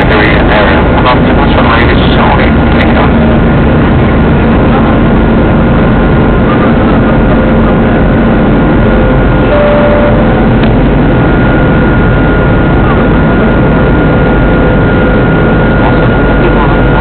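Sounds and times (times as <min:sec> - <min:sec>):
jet engines in airliner cabin: 0:00.0 - 0:17.0.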